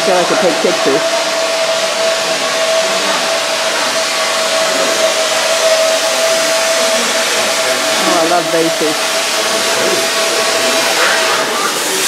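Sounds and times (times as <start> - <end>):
blower rushing hiss: 0.0 - 12.0.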